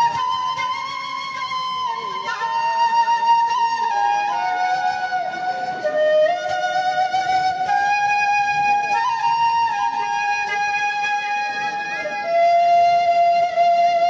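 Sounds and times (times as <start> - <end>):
slow flute melody: 0.0 - 14.0.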